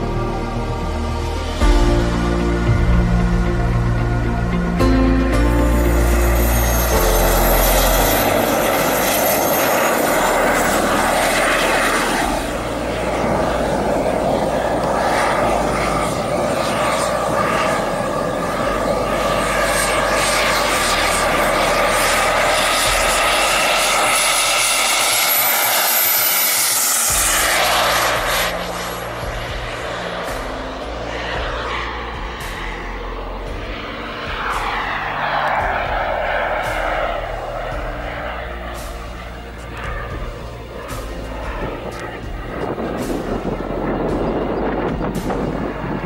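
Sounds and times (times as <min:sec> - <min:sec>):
exhaust rushing: 0:00.0 - 0:46.0
turbine engine whine: 0:00.0 - 0:46.0.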